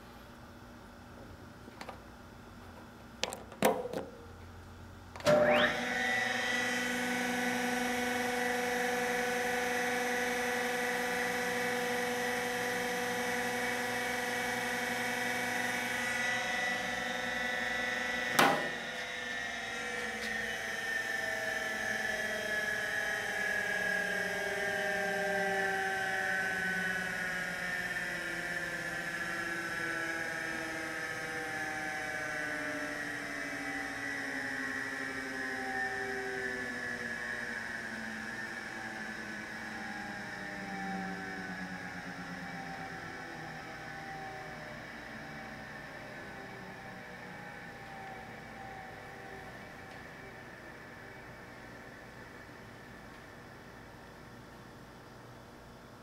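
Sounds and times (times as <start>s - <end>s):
grinder wheel whine: 5.3s - 54.0s.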